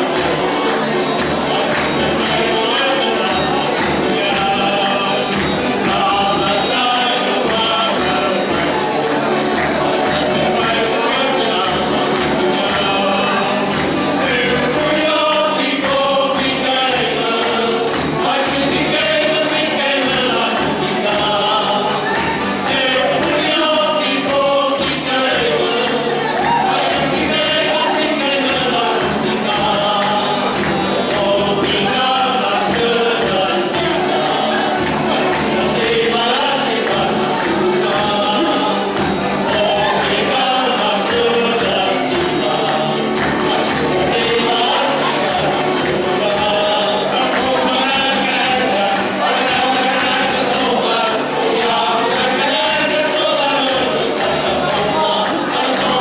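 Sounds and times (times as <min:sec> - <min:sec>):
accordion: 0:00.0 - 0:56.0
men and women singing in chorus: 0:00.0 - 0:56.0
strummed mandolin strings: 0:00.0 - 0:56.0.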